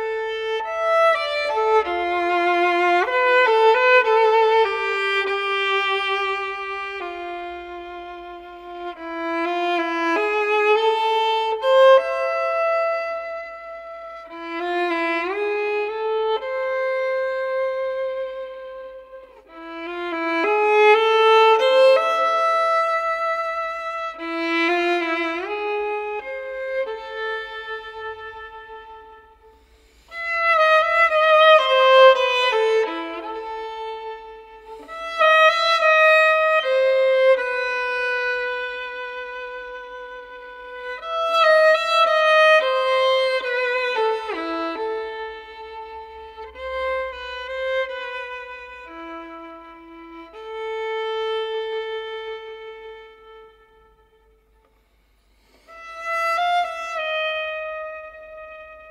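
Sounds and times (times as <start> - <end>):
solo violin slow melody: 0.0 - 58.9.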